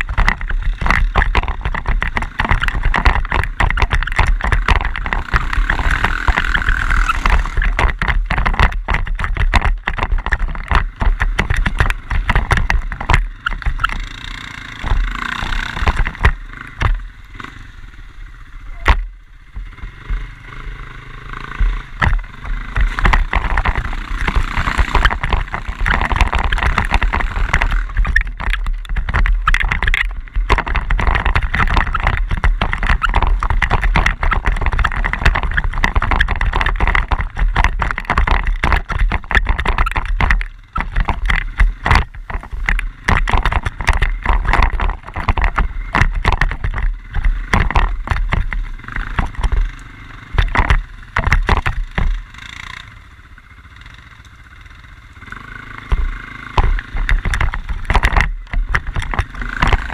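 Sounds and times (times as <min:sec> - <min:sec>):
quad bike engine rumbling: 0:00.0 - 0:59.9.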